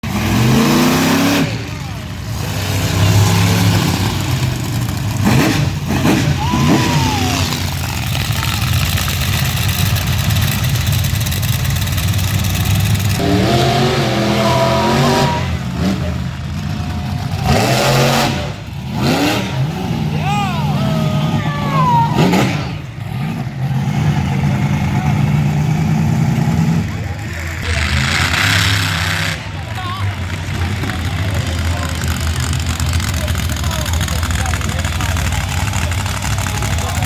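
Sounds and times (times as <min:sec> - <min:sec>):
truck engine revving hard: 0:00.0 - 0:37.0.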